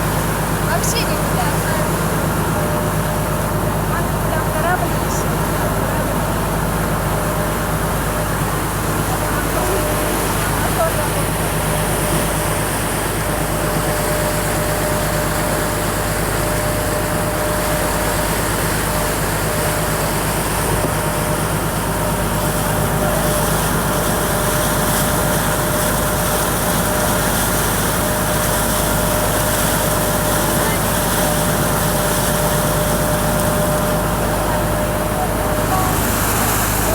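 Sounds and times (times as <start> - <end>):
motorboat engine humming: 0.0 - 36.9.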